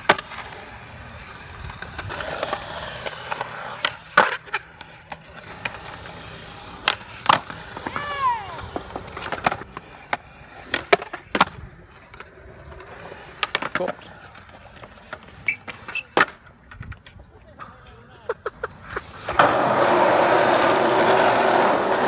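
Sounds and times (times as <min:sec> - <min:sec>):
skateboard clacking on ground: 0:00.0 - 0:22.0
skateboard wheels rolling on concrete: 0:00.0 - 0:22.0.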